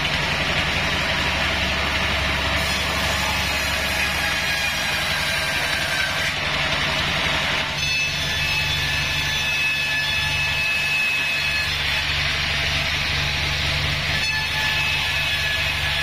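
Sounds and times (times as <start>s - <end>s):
low motor hum: 0.0s - 9.2s, 11.8s - 16.0s
saw blade cutting wood: 0.0s - 16.0s.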